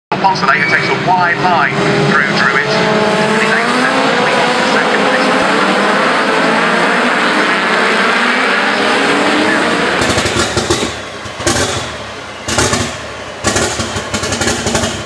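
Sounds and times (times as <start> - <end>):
racing engines running hard: 0.1 - 15.0
engine crackling in sharp pulses: 0.2 - 15.0.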